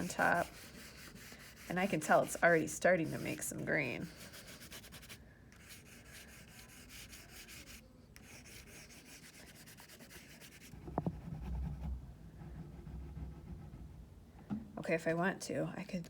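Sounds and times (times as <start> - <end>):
crayon scribbling on paper: 0.0 - 13.8.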